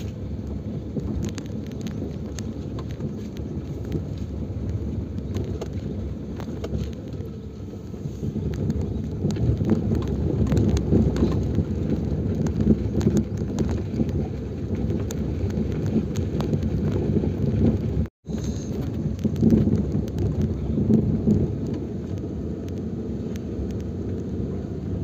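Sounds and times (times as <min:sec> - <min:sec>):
stones knocking and rattles: 0:00.0 - 0:07.3, 0:08.4 - 0:22.8
tyres rumbling on gravel: 0:00.0 - 0:25.0.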